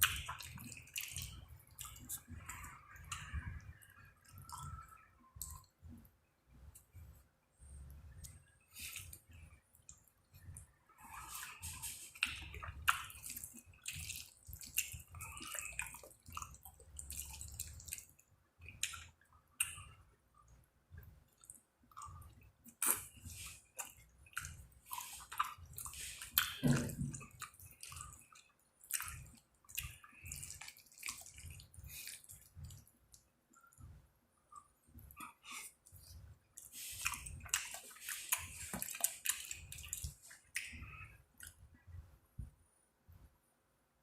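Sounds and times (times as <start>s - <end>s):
wet chewing: 0.0s - 6.0s, 7.8s - 20.5s, 21.3s - 41.6s.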